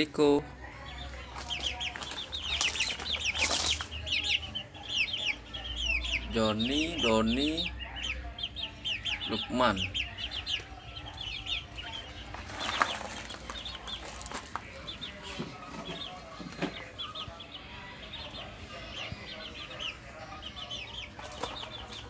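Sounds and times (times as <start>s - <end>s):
quails chirping: 0.0s - 22.0s.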